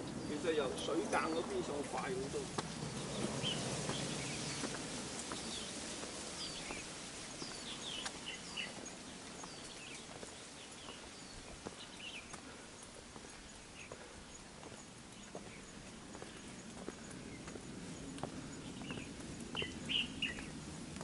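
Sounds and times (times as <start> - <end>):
small birds chirping: 0.0 - 21.0
footsteps on wooden boardwalk: 0.2 - 21.0.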